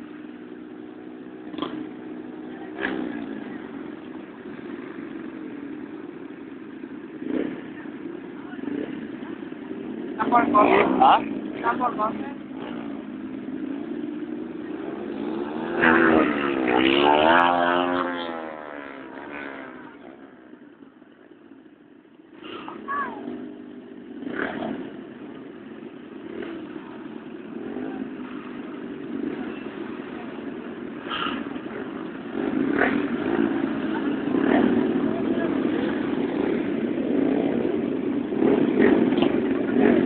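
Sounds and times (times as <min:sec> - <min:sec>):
motorcycles revving and passing: 0:00.0 - 0:40.0.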